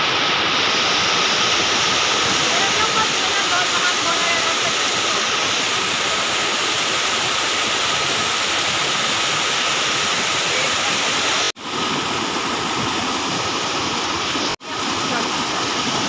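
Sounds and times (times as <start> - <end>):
river flowing over stones: 0.0 - 16.0
small waterfall splashing over rocks: 0.0 - 16.0.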